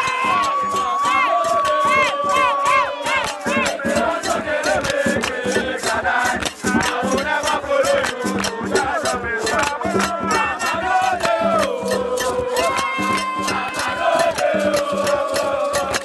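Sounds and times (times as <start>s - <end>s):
crowd singing and shouting: 0.0s - 16.0s
percussive beat: 0.0s - 16.0s.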